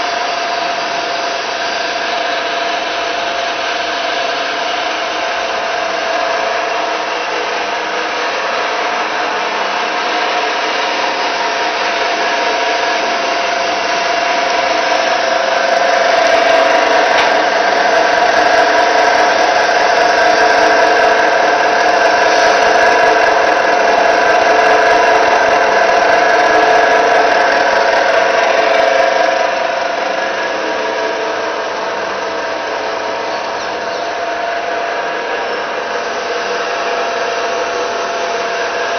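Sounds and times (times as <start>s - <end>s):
mixer motor humming and whining: 0.0s - 38.9s.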